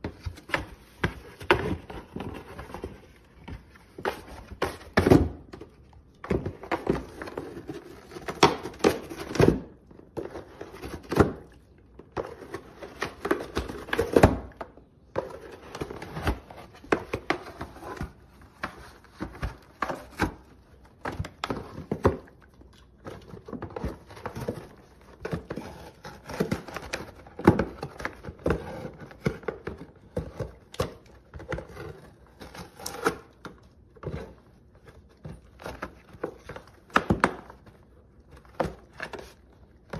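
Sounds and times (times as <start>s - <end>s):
dog tearing cardboard box: 0.0s - 39.9s.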